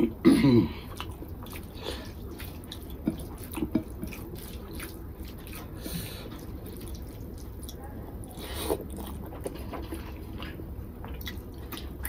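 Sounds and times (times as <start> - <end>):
fingers mixing wet food: 0.1 - 12.0.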